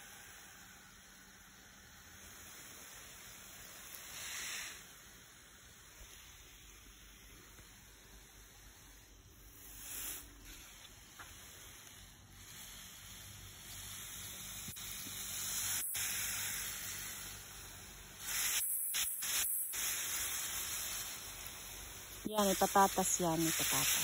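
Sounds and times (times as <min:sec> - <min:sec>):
garden hose spraying plants: 0:00.0 - 0:24.0.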